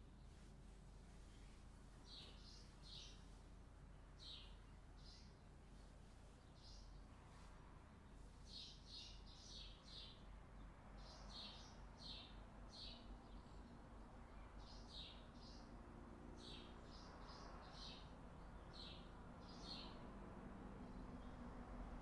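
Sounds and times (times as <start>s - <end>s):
faint bird chirping: 0.0s - 15.8s, 16.4s - 21.6s.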